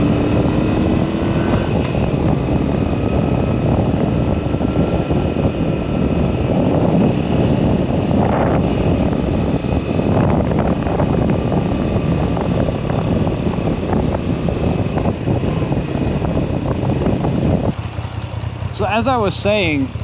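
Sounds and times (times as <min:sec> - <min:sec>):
wind rushing over microphone: 0:00.0 - 0:18.0
motorcycle engine running: 0:00.0 - 0:20.0.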